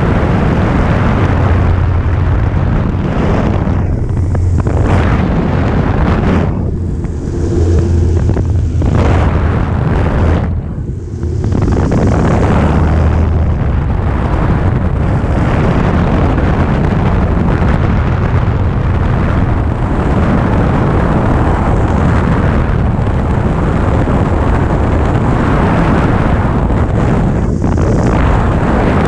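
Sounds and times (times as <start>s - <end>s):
propeller airplane engine: 0.0s - 29.0s
wind buffeting microphone: 0.0s - 29.0s.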